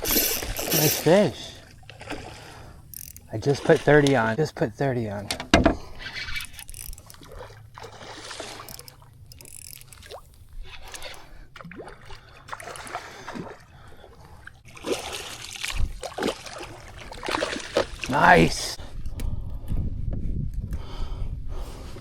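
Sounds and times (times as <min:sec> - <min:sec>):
water lapping around boat: 0:00.0 - 0:19.4.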